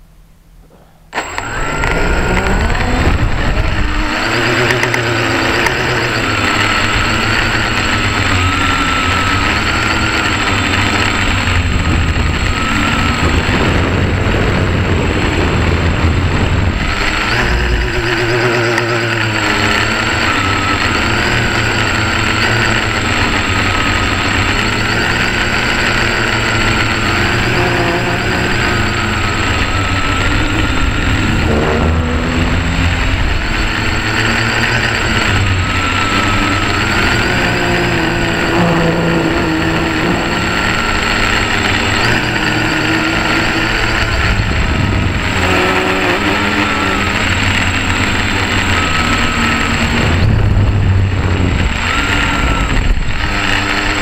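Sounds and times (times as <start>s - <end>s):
quadcopter motors buzzing: 0.6s - 54.0s.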